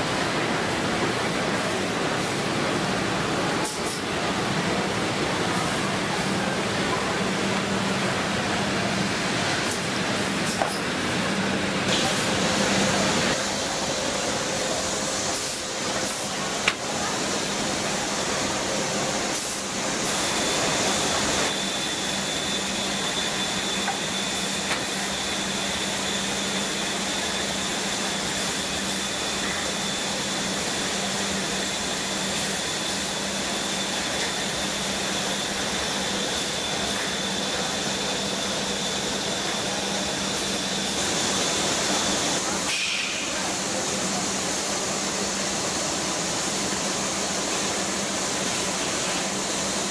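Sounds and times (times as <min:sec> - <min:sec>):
conveyors and motors running: 0:00.0 - 0:49.9.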